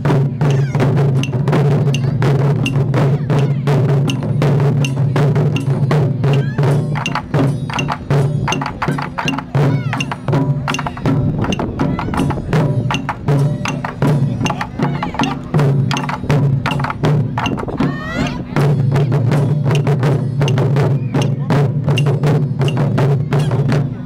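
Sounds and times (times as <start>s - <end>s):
sharp clicking drum strokes: 0.0s - 23.9s
drum ensemble playing fast rhythm: 0.0s - 24.0s.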